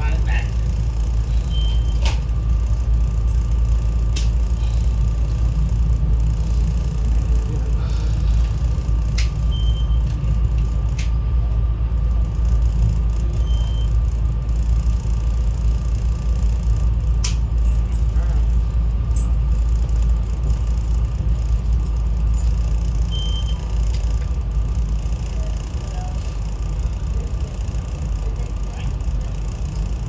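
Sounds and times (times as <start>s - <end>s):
train car low rumble: 0.0s - 30.0s.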